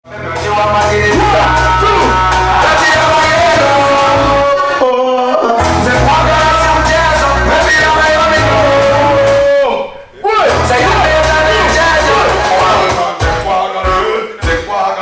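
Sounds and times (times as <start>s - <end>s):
song with heavy bass: 0.1s - 4.6s, 5.6s - 14.7s.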